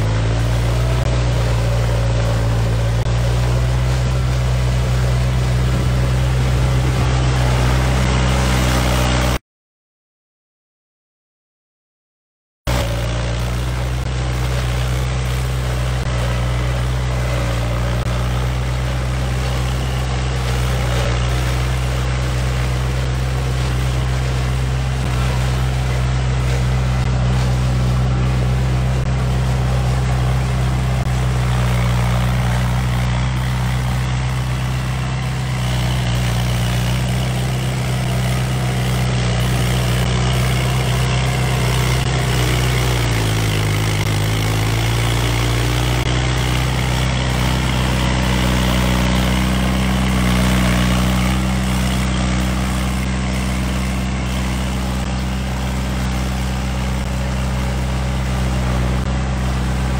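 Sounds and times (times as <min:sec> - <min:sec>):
tractor engine humming: 0:00.0 - 0:09.4, 0:12.7 - 0:59.9.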